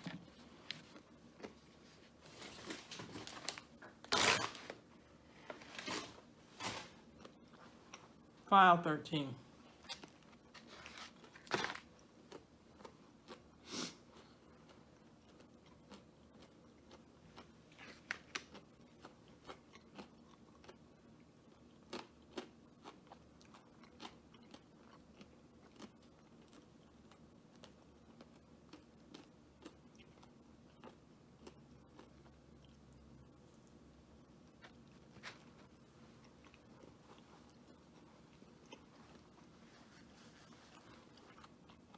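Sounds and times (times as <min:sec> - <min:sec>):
quiet chewing: 0:00.0 - 0:04.0, 0:09.8 - 0:41.9.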